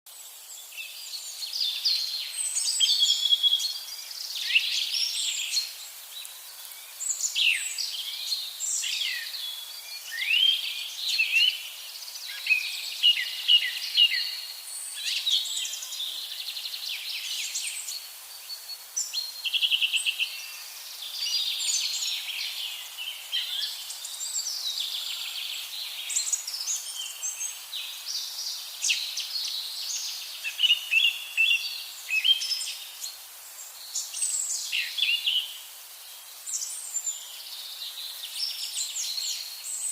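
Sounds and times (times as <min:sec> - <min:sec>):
songbirds chorus: 0:00.1 - 0:39.9.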